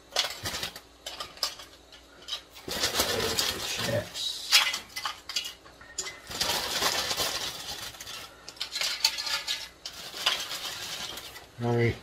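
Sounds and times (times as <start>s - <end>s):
potato slices clattering into pan: 0.0s - 11.6s.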